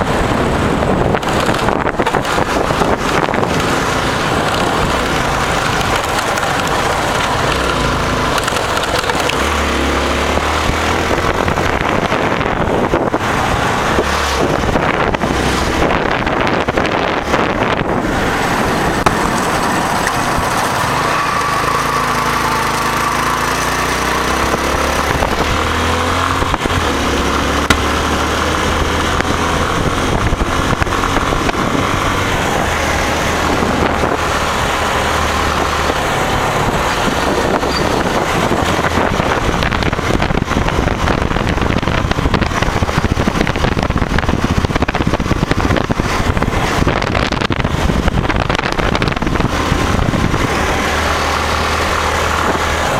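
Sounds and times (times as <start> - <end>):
motorcycle engine running: 0.0 - 52.9
rush of wind and road noise: 0.0 - 52.9.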